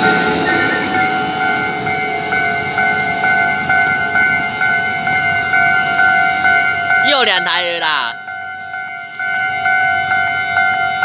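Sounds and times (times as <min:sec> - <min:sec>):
level crossing bell ringing: 0:00.0 - 0:11.0
passing train: 0:00.0 - 0:11.0.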